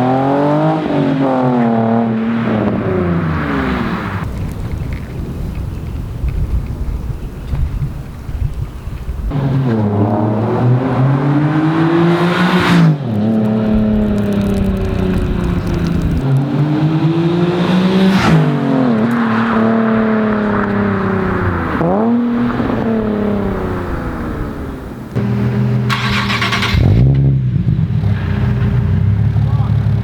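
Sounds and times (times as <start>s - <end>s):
car engine accelerating through gears: 0.0s - 4.5s, 9.3s - 30.0s.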